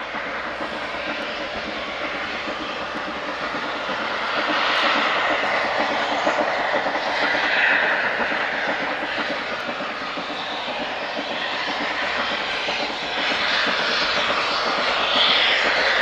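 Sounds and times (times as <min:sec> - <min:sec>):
distant steam locomotive rushing: 0:00.0 - 0:16.0.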